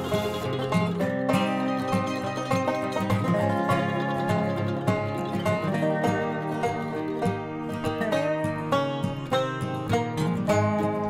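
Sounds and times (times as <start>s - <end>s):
plucked strings music: 0.0s - 11.0s.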